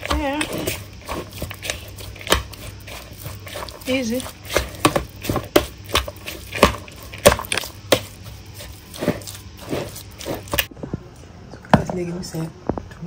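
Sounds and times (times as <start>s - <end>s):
metal utensil scraping plastic bowl: 0.0s - 10.7s.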